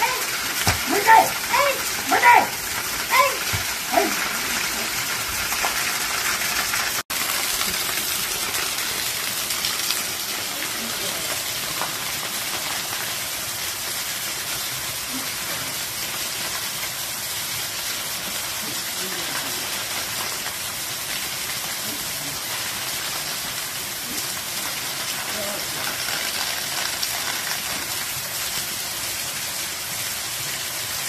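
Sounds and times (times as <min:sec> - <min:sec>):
small waterfall splashing on rock: 0:00.0 - 0:31.0.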